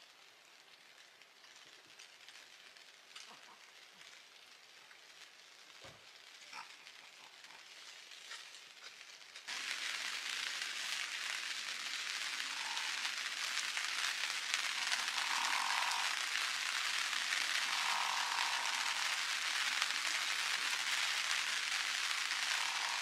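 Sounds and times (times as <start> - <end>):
heavy rain on a tent: 0.0 - 23.0.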